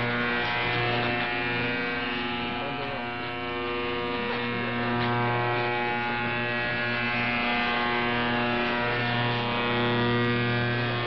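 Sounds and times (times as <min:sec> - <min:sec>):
loud steady radio buzzing: 0:00.0 - 0:11.0.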